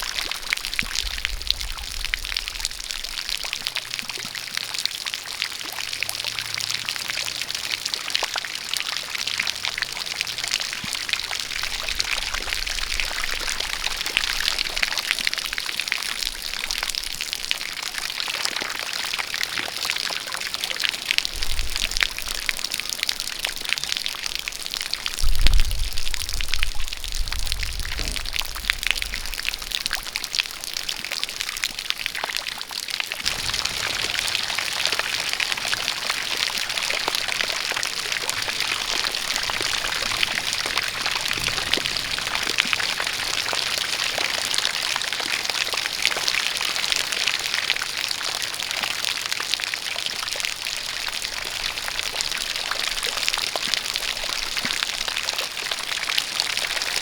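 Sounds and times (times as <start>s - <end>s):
jet of water pouring: 0.0s - 57.0s
rain falling: 0.0s - 57.0s.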